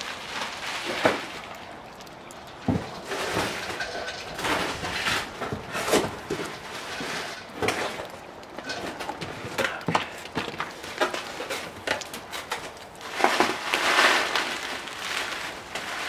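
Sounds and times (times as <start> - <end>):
knocks and scrapes: 0.0 - 2.0, 2.6 - 16.0
packaging rustling and crinkling: 0.0 - 16.0.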